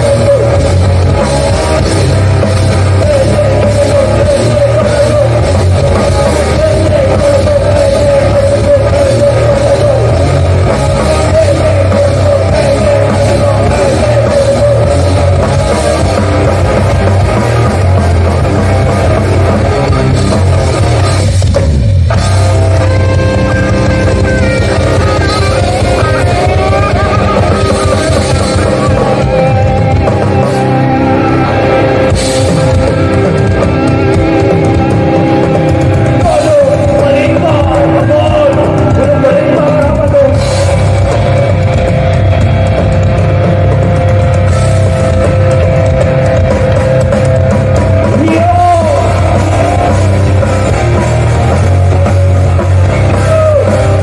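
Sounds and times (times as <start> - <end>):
band playing loud rock music: 0.0 - 54.0.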